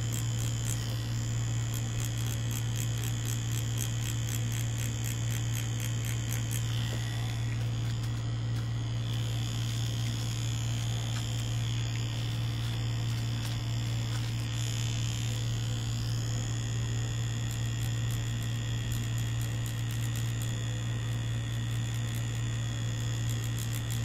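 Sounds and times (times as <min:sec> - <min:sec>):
tattoo machine buzzing: 0:00.0 - 0:24.0.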